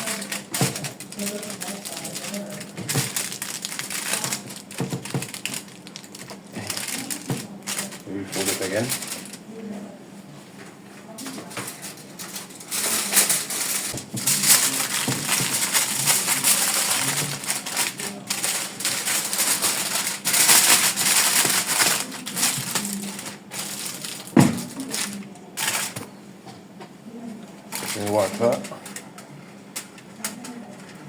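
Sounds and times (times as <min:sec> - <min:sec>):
aluminium foil crinkling: 0:00.0 - 0:09.6, 0:11.2 - 0:26.1, 0:27.7 - 0:31.0.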